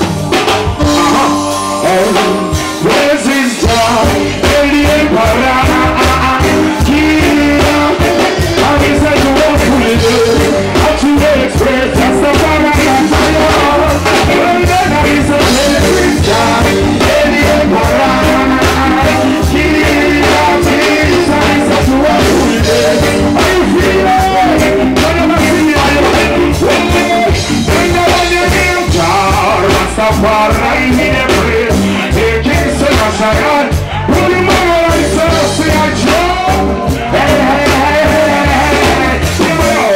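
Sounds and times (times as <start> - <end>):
reggae band playing: 0.0 - 39.9
man singing into a microphone: 0.8 - 39.9.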